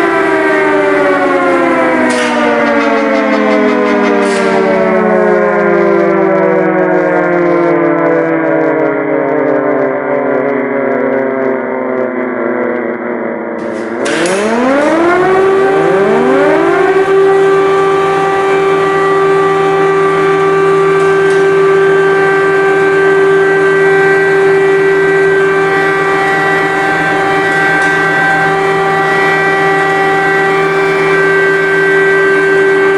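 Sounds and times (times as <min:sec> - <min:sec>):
air-raid siren wailing: 0:00.0 - 0:32.9.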